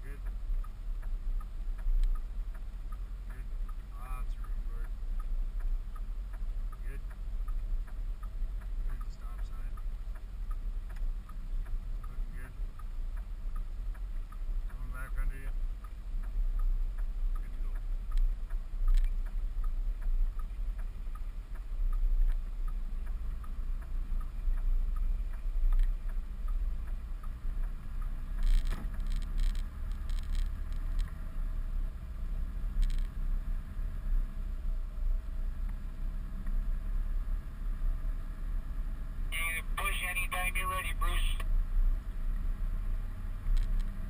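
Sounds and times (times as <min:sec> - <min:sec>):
engine and road rumble: 0:00.0 - 0:44.0
light regular ticking: 0:00.0 - 0:44.0.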